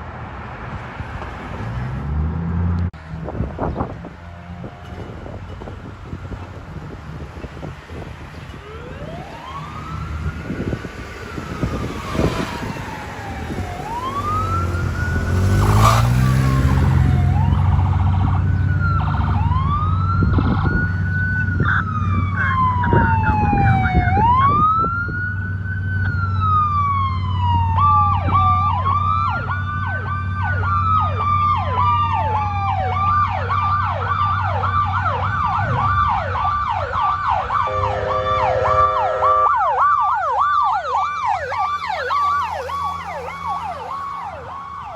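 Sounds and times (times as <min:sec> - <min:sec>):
rapid siren yelp: 0:08.3 - 0:44.9
electronic siren wailing: 0:08.5 - 0:44.9.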